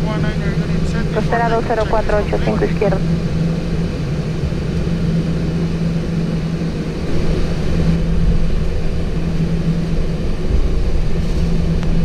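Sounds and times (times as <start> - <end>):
cockpit hum: 0.0 - 12.0
low rumble of jet engines: 0.0 - 12.0.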